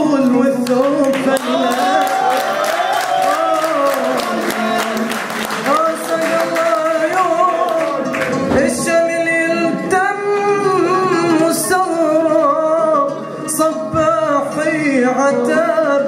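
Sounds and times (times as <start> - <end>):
man singing into a microphone: 0.0 - 2.4, 3.1 - 16.0.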